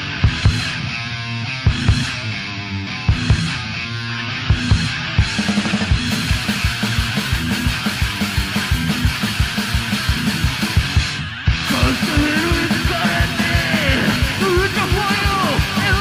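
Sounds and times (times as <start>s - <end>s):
distorted guitar: 0.0s - 16.0s
heavy rock music: 0.0s - 16.0s
fast kick-drum beat: 0.2s - 0.7s, 1.7s - 2.1s, 3.1s - 3.6s, 4.5s - 16.0s.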